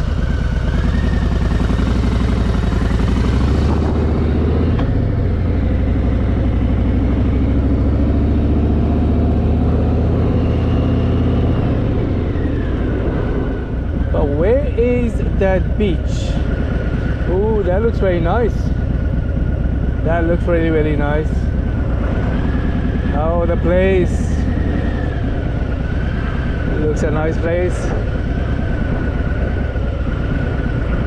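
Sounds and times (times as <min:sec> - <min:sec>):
motorcycle engine riding off: 0:00.0 - 0:31.0.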